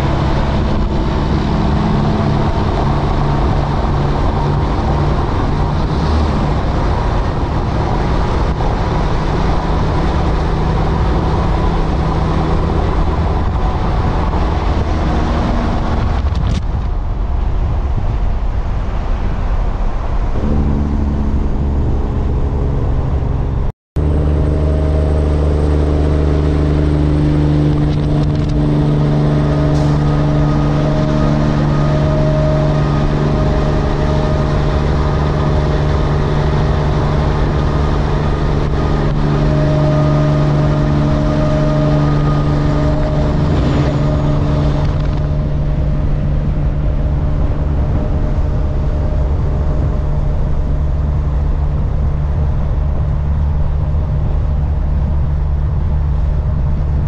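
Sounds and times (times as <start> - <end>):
truck diesel engine droning: 0.0 - 57.0
tyre and road noise: 0.0 - 57.0.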